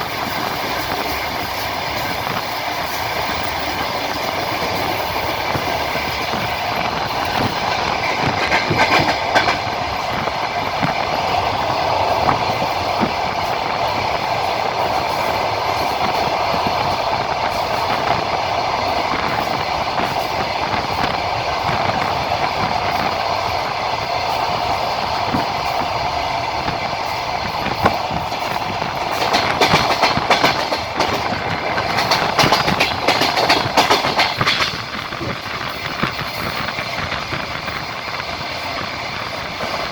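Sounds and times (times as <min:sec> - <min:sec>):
train rumbling: 0:00.0 - 0:39.9
train wheels clicking over rail joints: 0:00.0 - 0:39.9.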